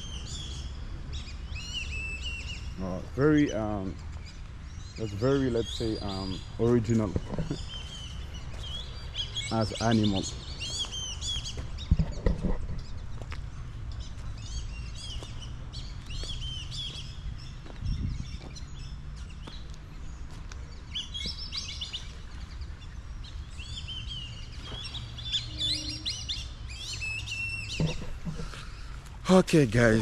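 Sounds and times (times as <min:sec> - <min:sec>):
steady low rumble: 0:00.0 - 0:27.0
birds chirping and singing: 0:00.0 - 0:30.0.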